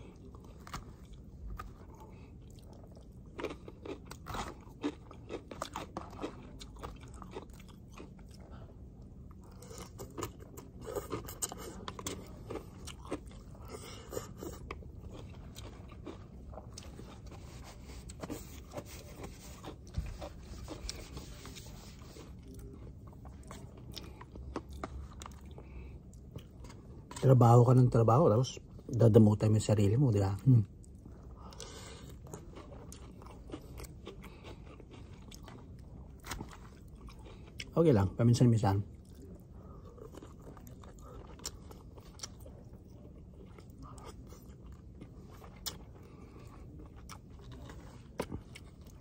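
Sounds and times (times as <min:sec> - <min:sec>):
person chewing food: 0:00.0 - 0:27.3, 0:30.6 - 0:37.7, 0:38.9 - 0:49.0.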